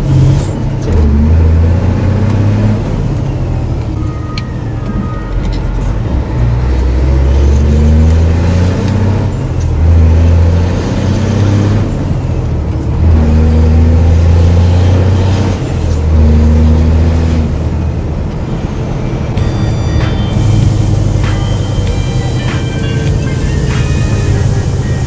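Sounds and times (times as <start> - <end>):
truck diesel engine accelerating: 0.0 - 25.0.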